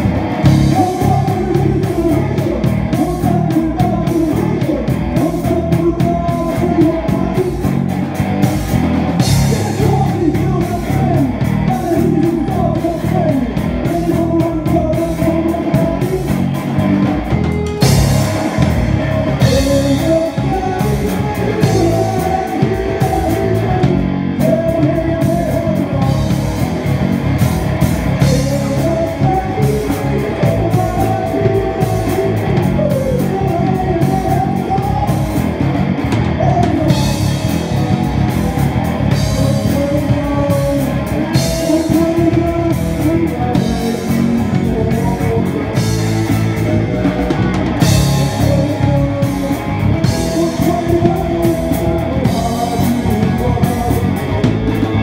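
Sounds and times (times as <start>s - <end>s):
drum kit: 0.0s - 55.0s
electric bass guitar: 0.0s - 55.0s
electric guitar: 0.0s - 55.0s.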